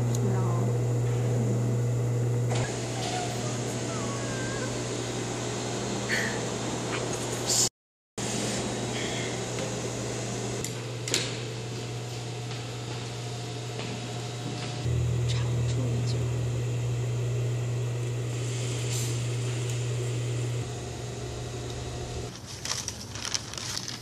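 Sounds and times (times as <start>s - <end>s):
low machine hum: 0.0s - 7.6s, 8.2s - 24.0s.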